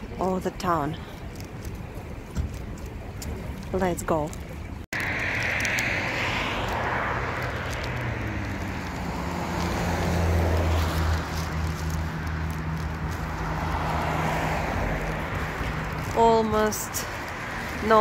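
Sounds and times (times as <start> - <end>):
tyre noise of passing vehicles: 0.0 - 18.0
low engine hum: 0.8 - 18.0.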